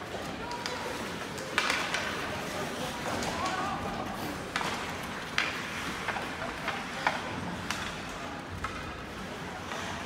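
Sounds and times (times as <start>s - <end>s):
hockey sticks and puck knocking: 0.0s - 3.6s, 4.2s - 10.0s
steady background noise: 0.0s - 10.0s.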